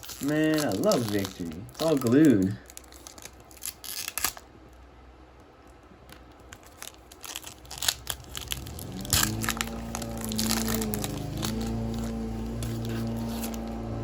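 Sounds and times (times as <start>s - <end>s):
wrapper tearing and crinkling: 0.0s - 4.8s, 6.5s - 14.0s
steady low hum: 0.0s - 14.0s.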